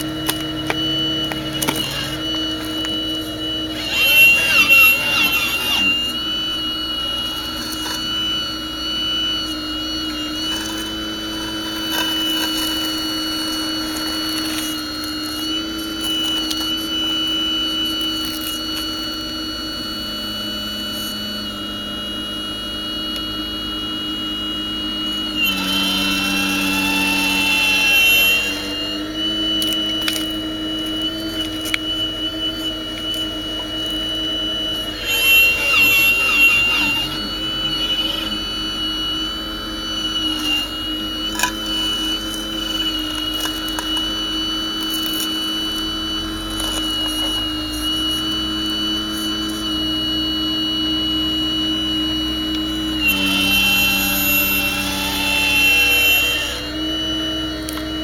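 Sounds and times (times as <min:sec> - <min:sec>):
model excavator motor whine: 0:00.0 - 0:58.0.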